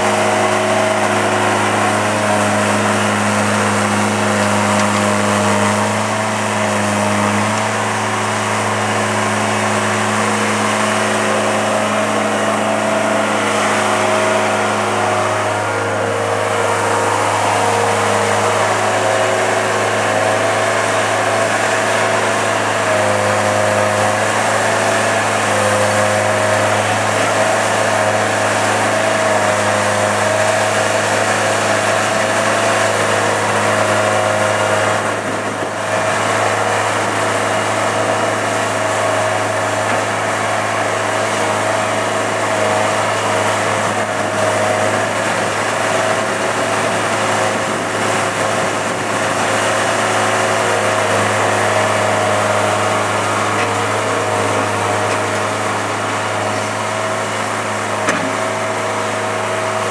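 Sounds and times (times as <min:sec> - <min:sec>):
bucket pushing dirt: 0:00.0 - 0:59.9
diesel engine running: 0:00.0 - 0:59.9.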